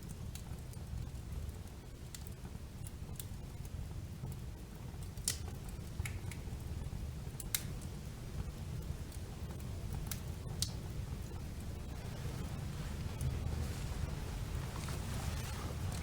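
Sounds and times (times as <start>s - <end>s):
fire crackles and pops: 0.0s - 16.0s
rumble of flames: 0.0s - 16.0s.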